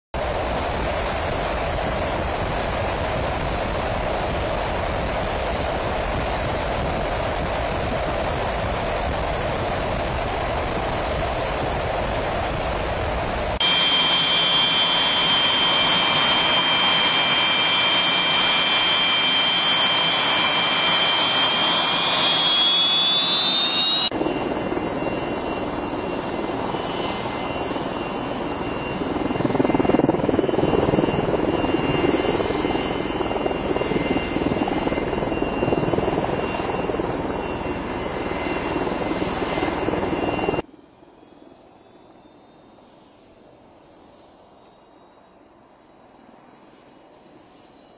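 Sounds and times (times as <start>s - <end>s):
jet engine rush in flight: 0.2s - 47.9s
jet turbine whine: 0.2s - 47.9s.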